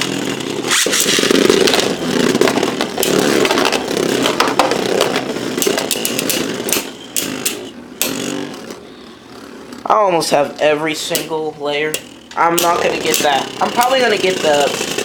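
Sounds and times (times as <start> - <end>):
spinning tops colliding clicks: 0.0 - 8.8, 11.1 - 15.0
spinning tops grinding whir: 0.0 - 15.0.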